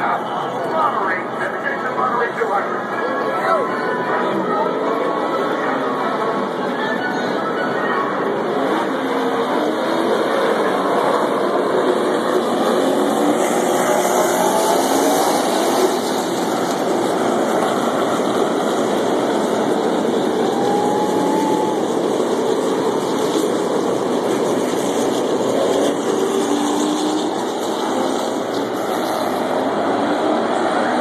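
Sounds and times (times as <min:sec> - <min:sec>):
race truck engines droning: 0:00.0 - 0:31.0.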